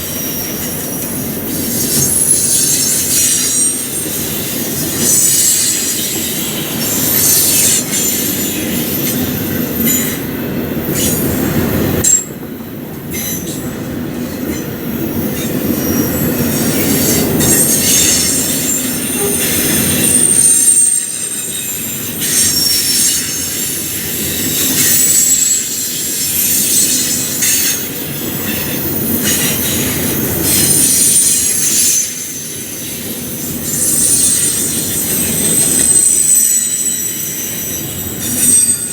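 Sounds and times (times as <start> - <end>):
wheels clacking over rail joints: 0.0 - 32.3
train rumble: 0.0 - 38.9
train wheels squealing: 0.0 - 38.9.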